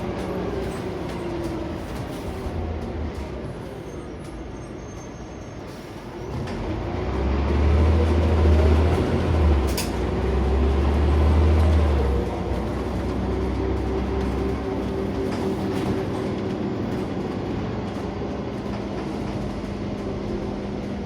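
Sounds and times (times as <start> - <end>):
bus engine drone: 0.0 - 21.0
road noise: 0.0 - 21.0.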